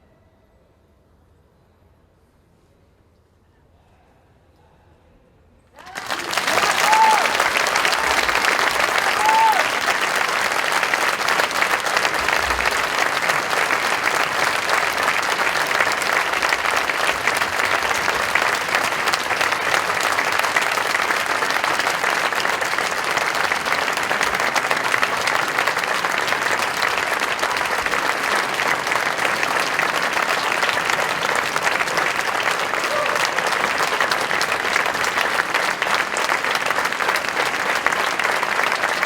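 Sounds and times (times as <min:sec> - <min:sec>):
audience applauding: 0:05.8 - 0:39.0.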